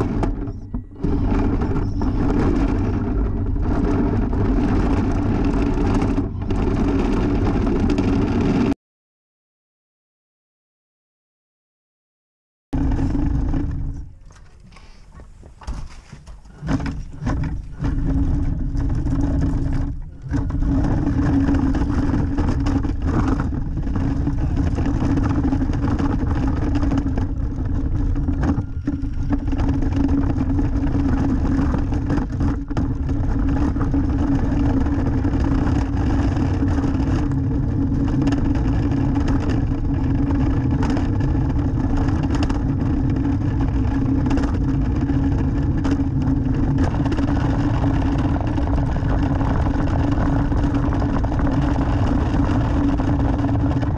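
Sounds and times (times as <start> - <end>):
toy truck drivetrain hum: 0.0 - 8.8, 12.8 - 53.9
wheels rolling on concrete: 0.0 - 8.8, 12.8 - 53.9.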